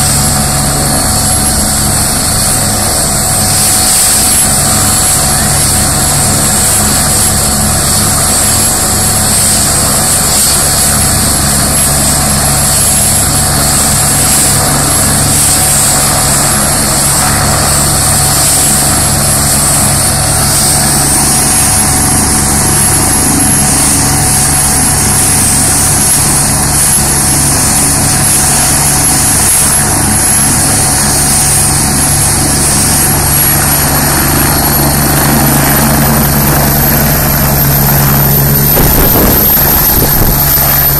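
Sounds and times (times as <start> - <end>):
helicopter rotor beat: 0.0 - 40.9
helicopter turbine whine: 0.0 - 40.9.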